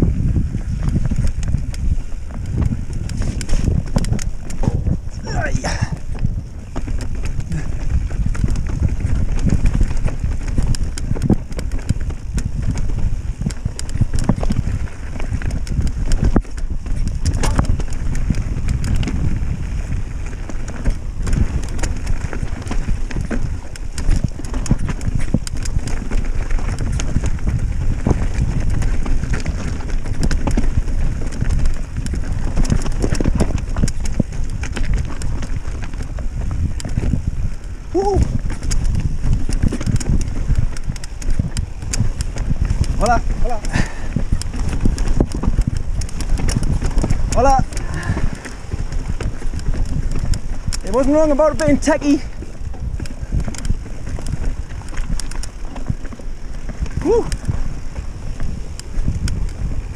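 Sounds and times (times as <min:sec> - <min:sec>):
bike knocking and rattling: 0:00.0 - 0:59.9
tyres crunching over loose stone: 0:00.3 - 0:59.9.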